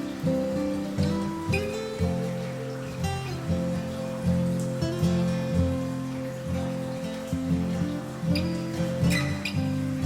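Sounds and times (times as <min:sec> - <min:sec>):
acoustic guitar plucking chords: 0:00.0 - 0:10.0.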